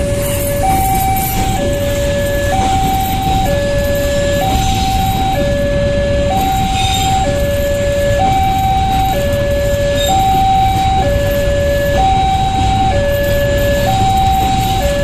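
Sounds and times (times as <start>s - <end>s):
freight train rumbling: 0.0s - 15.0s
level crossing alarm: 0.0s - 15.0s.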